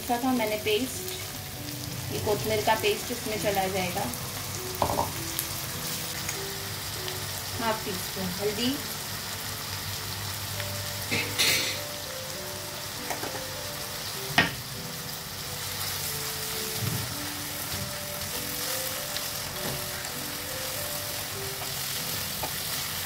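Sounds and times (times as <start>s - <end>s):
masala sizzling in a pan: 0.0s - 23.0s
soft background music: 0.0s - 23.0s.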